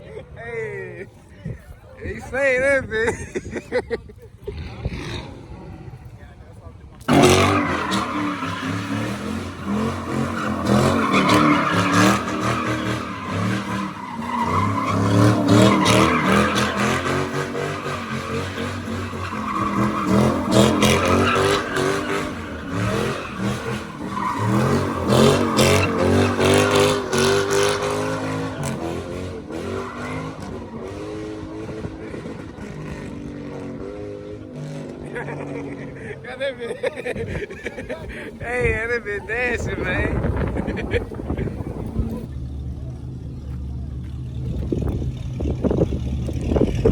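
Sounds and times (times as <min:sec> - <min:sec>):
tires squealing: 0:04.4 - 0:46.9
truck engine revving: 0:04.4 - 0:46.9.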